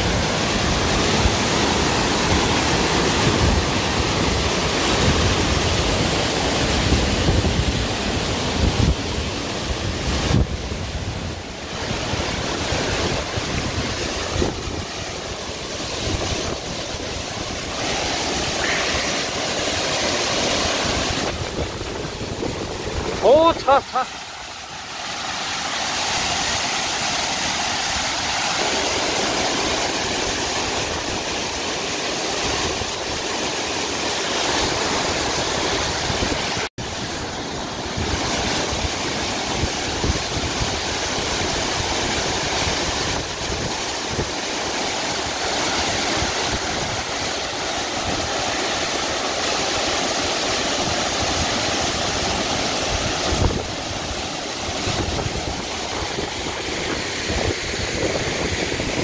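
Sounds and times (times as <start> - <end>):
waterfall rushing onto rocks: 0.0 - 59.0.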